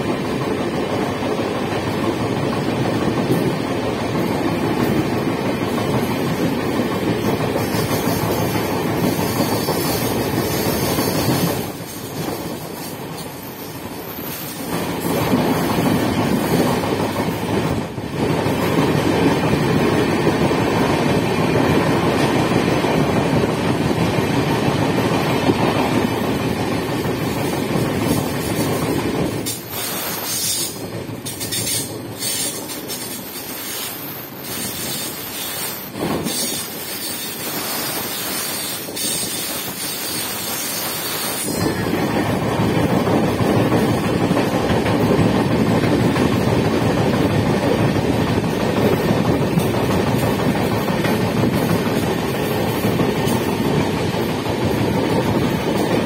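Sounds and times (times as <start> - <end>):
train wheels rattling on track: 0.0 - 56.0.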